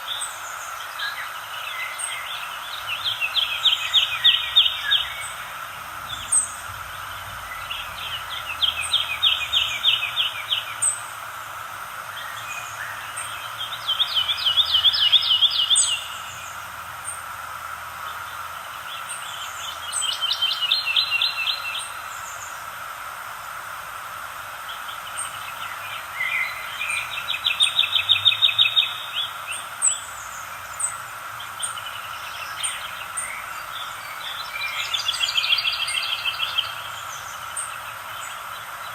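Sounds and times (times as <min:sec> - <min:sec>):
bird trilled song: 0:00.0 - 0:11.1, 0:12.2 - 0:17.2, 0:18.3 - 0:22.5, 0:24.7 - 0:38.9
steady background hiss: 0:00.0 - 0:38.9.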